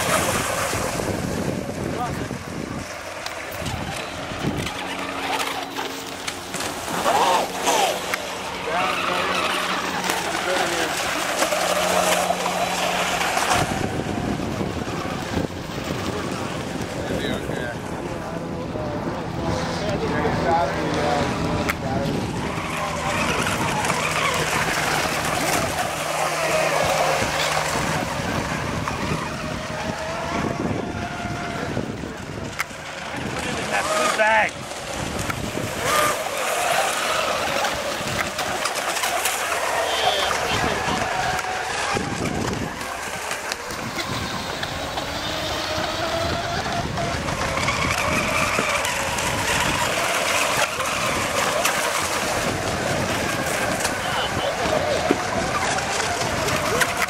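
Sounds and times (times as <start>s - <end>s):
rc boat motors droning: 0.0s - 57.0s.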